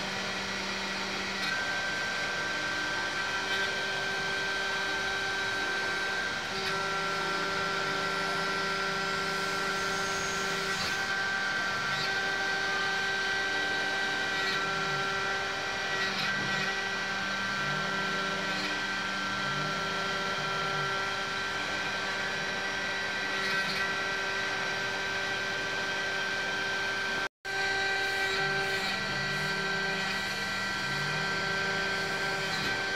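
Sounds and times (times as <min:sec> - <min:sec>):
milling machine whine: 0:00.0 - 0:32.9.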